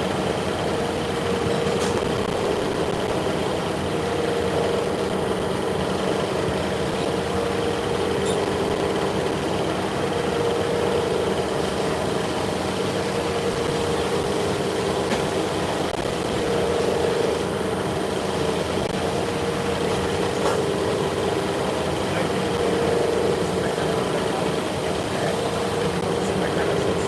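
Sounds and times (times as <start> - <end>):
machinery humming: 0.0 - 27.0
steady mid-pitched tone: 0.0 - 27.0.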